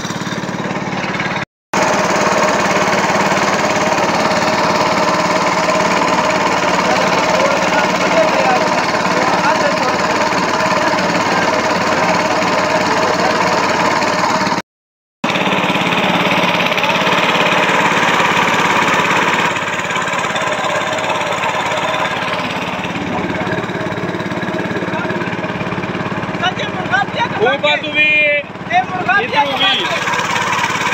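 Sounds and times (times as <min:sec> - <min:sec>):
small engine running: 0:00.0 - 0:14.6, 0:15.2 - 0:30.9.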